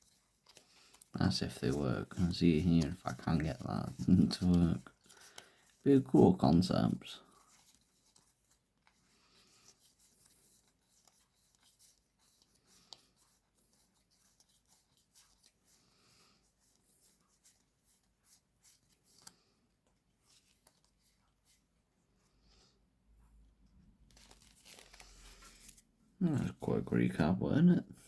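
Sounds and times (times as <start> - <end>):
trading cards rustling and ticking: 0.0 - 21.7, 23.6 - 28.0.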